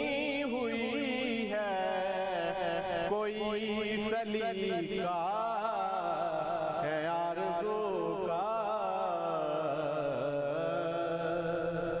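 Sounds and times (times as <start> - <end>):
man singing devotional poem: 0.0 - 12.0.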